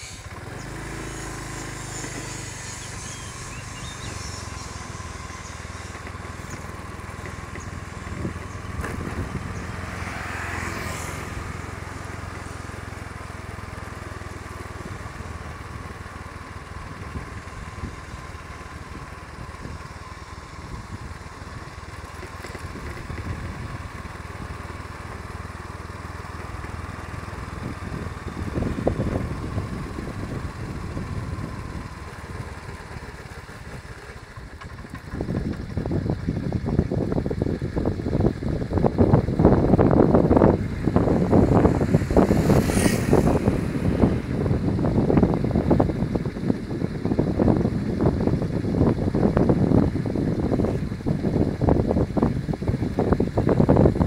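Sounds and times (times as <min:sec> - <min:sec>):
road and wind noise: 0:00.0 - 0:54.0
vehicle engine hum: 0:00.0 - 0:54.0.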